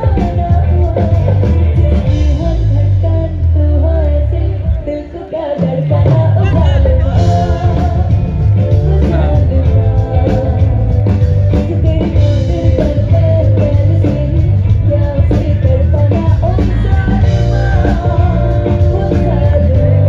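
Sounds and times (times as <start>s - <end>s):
guitar: 0.0s - 20.0s
heavy bass: 0.0s - 20.0s
person singing: 0.0s - 20.0s.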